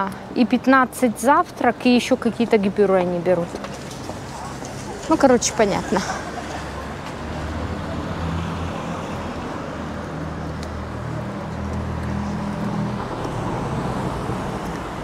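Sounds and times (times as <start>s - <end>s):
vehicle engines humming: 0.0s - 15.0s.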